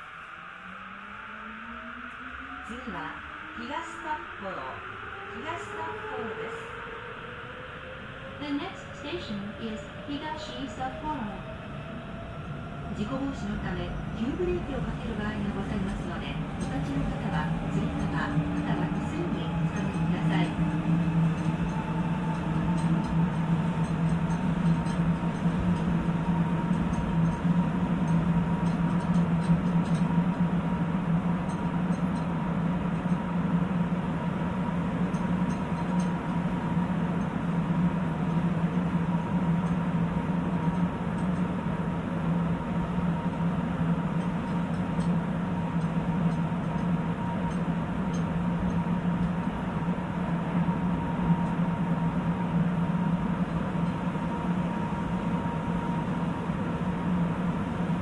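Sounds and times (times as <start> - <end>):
train running in tunnel: 0.0 - 58.0.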